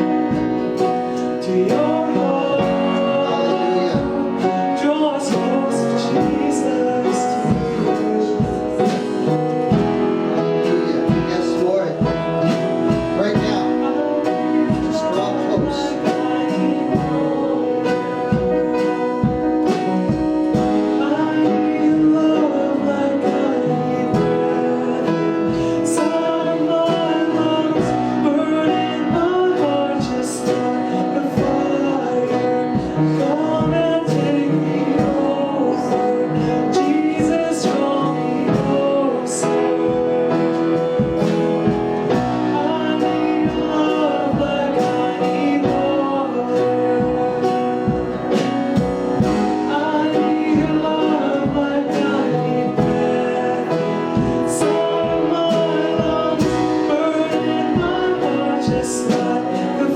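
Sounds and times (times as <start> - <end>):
guitar playing: 0.0 - 59.9
person singing: 0.0 - 59.9.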